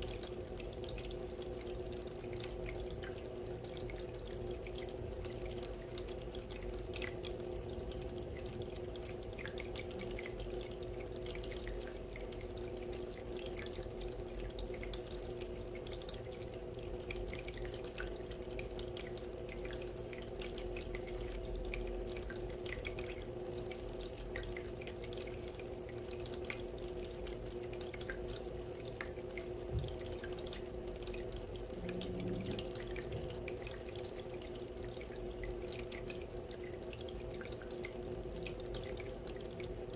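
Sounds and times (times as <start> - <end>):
low steady hum: 0.0 - 39.9
water fountain trickling: 0.0 - 39.9.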